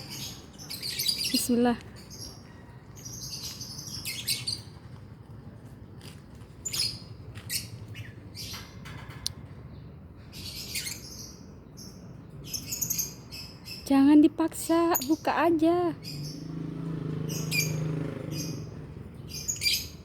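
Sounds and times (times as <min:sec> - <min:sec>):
lovebirds chirping and squawking: 0:00.0 - 0:05.1, 0:06.5 - 0:20.0.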